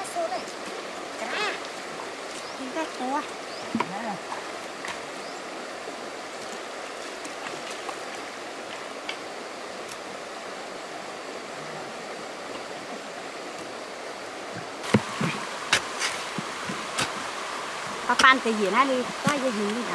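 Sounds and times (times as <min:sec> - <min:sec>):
water flowing: 0:00.0 - 0:19.9.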